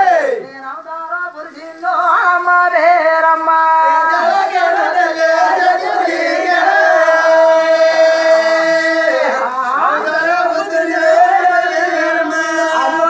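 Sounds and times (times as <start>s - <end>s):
men singing chant-like folk song: 0.0s - 13.0s.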